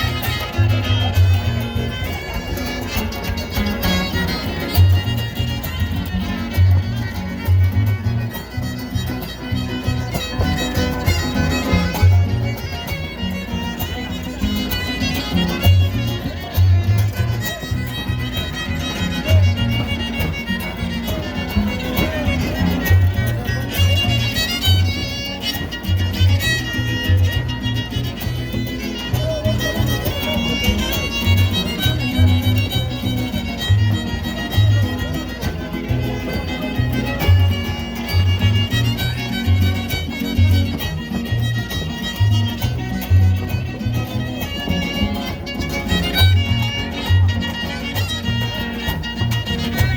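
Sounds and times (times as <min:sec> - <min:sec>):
strummed guitars: 0:00.0 - 0:49.9
violin melody: 0:00.0 - 0:49.9.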